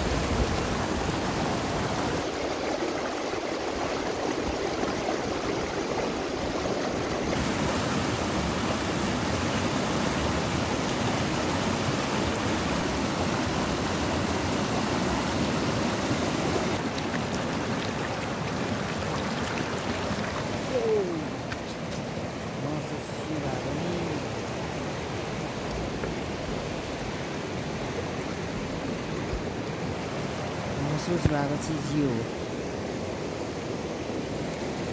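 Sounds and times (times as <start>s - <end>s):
river rushing over boulders: 0.0s - 34.9s.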